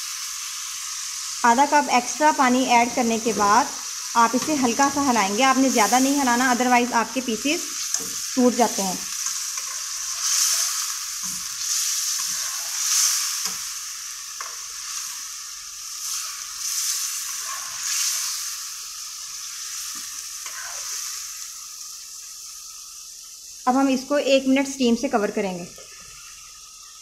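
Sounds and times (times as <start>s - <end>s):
chicken frying in oil: 0.0s - 27.0s.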